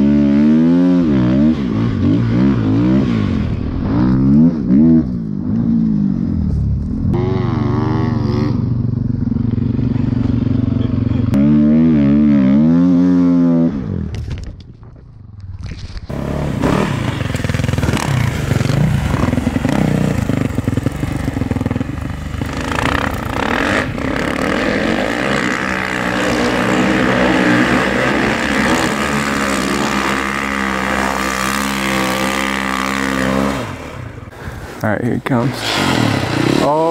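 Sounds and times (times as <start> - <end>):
dirt bike engine revving: 0.0 - 14.2, 16.1 - 36.9.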